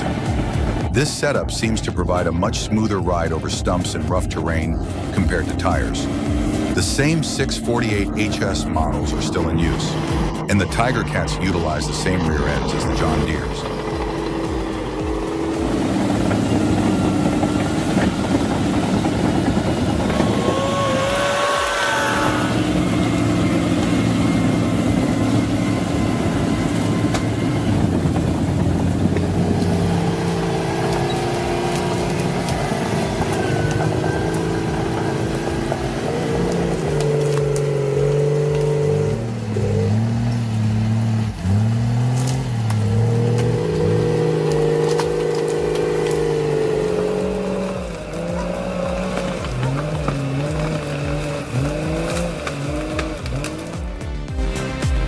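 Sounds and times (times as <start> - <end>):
high gliding whine: 0.0 - 54.4
diesel engine under load: 0.0 - 55.0.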